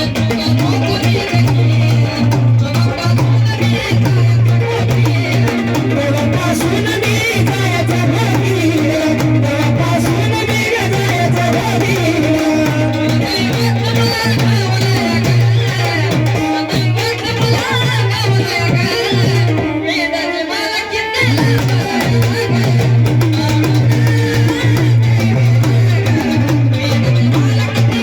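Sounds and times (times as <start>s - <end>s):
instrumental accompaniment with drums: 0.0s - 28.0s
person singing: 0.0s - 28.0s.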